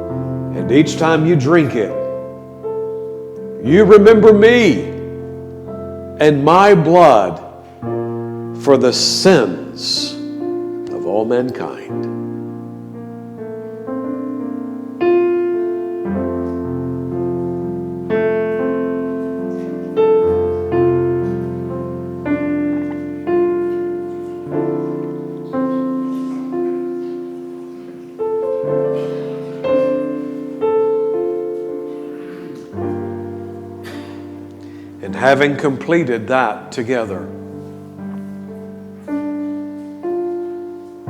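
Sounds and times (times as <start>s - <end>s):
slow solo piano: 0.0s - 41.0s.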